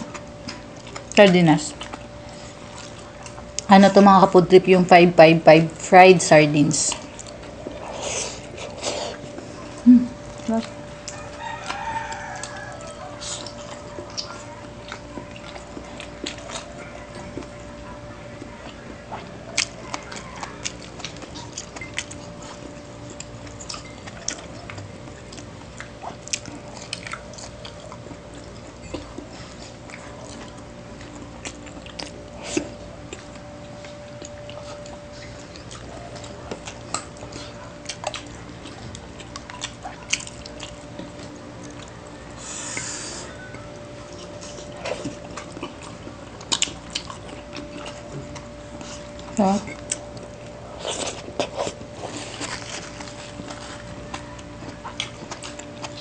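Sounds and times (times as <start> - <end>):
chewing and mouth smacks: 0.0 - 3.7, 6.9 - 56.0
faint hum: 0.0 - 56.0.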